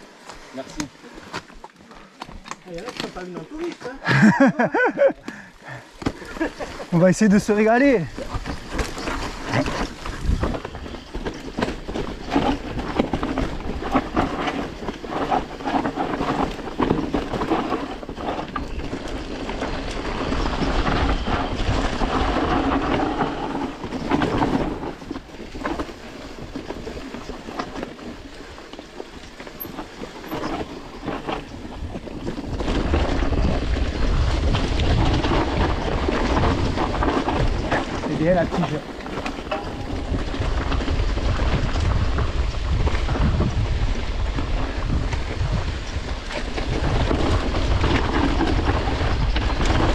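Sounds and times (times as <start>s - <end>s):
bike tyres on stones: 0.0s - 49.9s
bike frame and chain rattling: 6.2s - 49.9s
wind on microphone: 6.2s - 49.9s.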